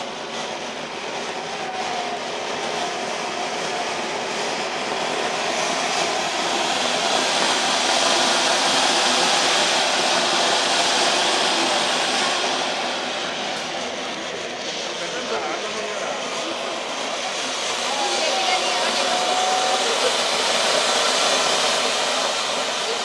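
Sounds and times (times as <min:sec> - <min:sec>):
fireworks fountain hissing: 0:00.0 - 0:23.0.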